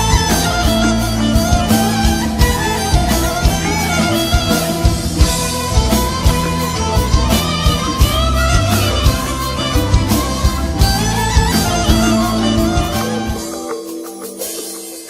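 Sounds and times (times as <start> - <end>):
plucked guitar: 0.0 - 15.0
steady drum beat: 0.0 - 15.0.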